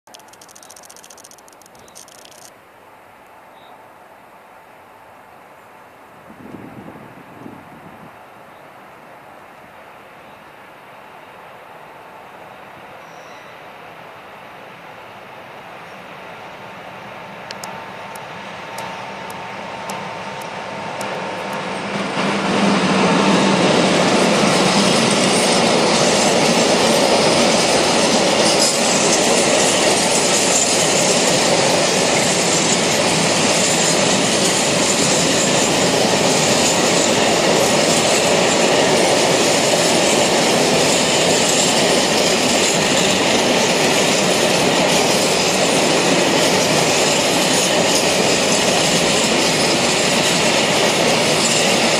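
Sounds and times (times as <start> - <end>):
electric locomotive passing: 0.1 - 2.5, 6.2 - 51.9
train wheels rushing on rail: 0.2 - 2.5, 12.4 - 51.9.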